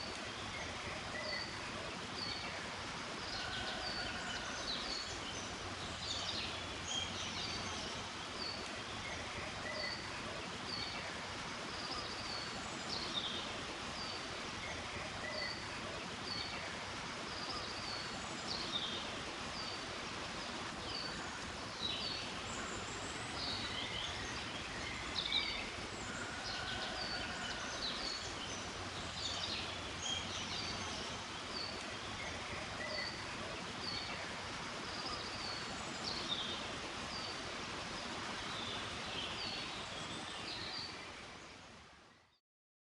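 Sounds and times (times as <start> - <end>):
forest ambience hiss: 0.0 - 42.4.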